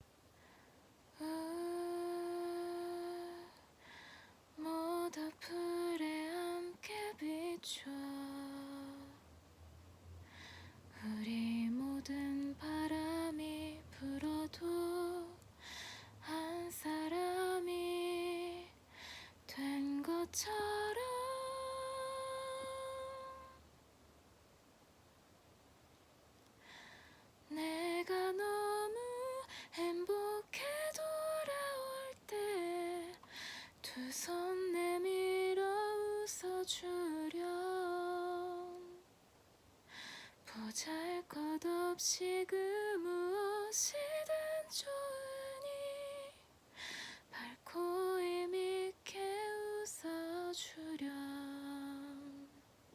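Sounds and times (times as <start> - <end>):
woman singing a cappella: 1.1 - 9.3, 10.4 - 23.6, 27.4 - 39.1, 40.0 - 52.7.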